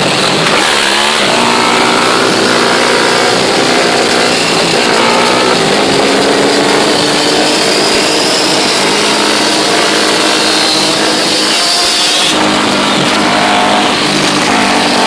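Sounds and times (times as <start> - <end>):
quad bike engines revving: 0.0 - 15.0.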